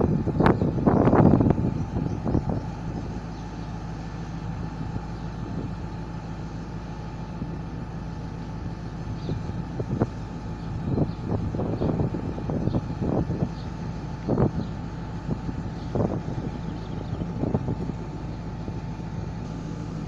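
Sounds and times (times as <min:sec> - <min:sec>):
diesel locomotive engine humming: 0:00.0 - 0:20.0.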